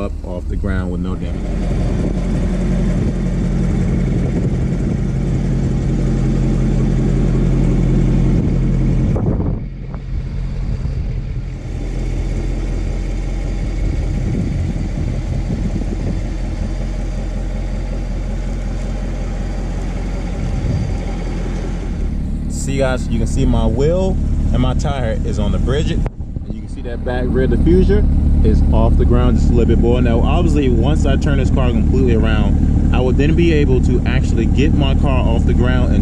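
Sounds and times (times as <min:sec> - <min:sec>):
car engine running slowly: 0:00.0 - 0:36.0.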